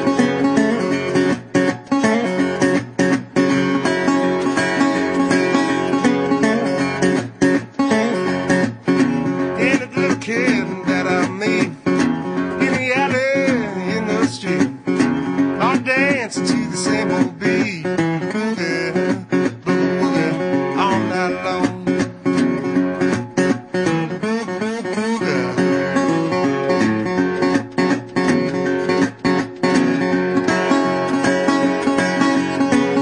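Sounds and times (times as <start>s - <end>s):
song with acoustic guitar: 0.0s - 33.0s.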